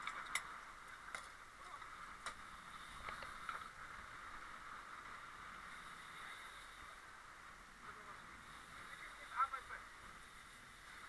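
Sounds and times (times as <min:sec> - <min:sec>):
boat engine and water hiss: 0:00.0 - 0:11.0.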